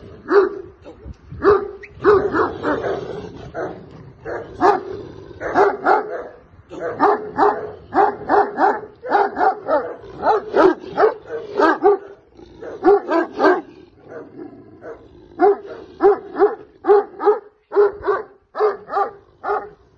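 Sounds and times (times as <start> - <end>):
large dog barking: 0.0 - 19.9.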